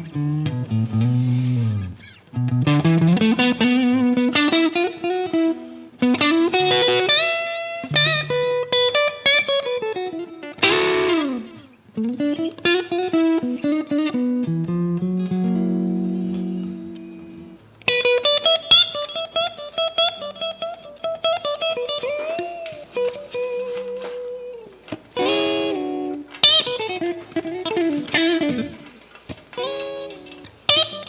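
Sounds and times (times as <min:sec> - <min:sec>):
electric guitar lead line: 0:00.0 - 0:31.0.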